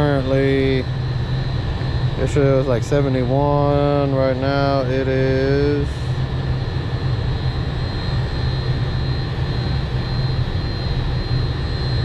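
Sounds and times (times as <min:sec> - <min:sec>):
mechanical drone with low hum: 0:00.0 - 0:12.0
thin high whine: 0:00.0 - 0:12.0.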